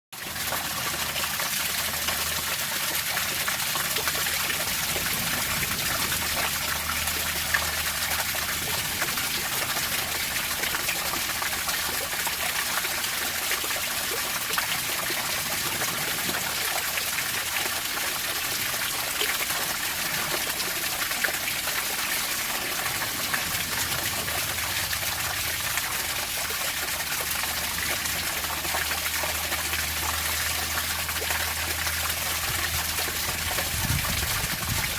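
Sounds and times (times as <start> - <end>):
water running and trickling: 0.2 - 34.9.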